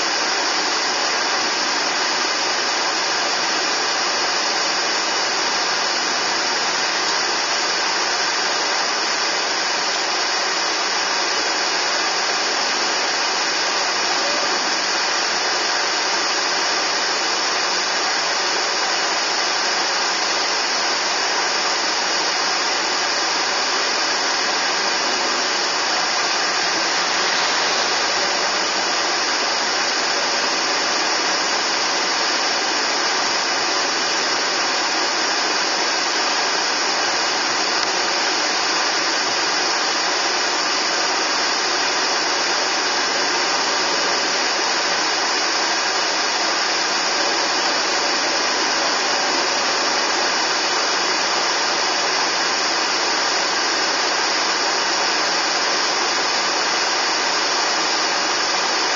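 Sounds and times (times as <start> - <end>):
car interior hiss: 0.0 - 58.9.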